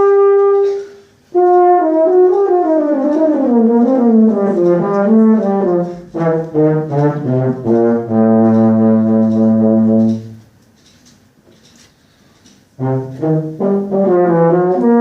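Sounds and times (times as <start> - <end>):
euphonium playing: 0.0 - 10.4, 12.8 - 15.0.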